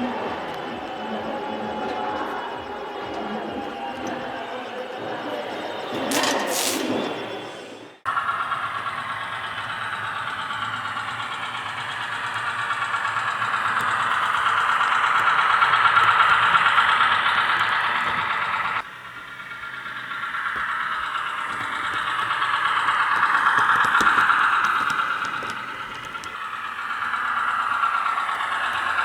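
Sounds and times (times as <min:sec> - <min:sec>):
model locomotive diesel engine sound: 0:00.0 - 0:29.0.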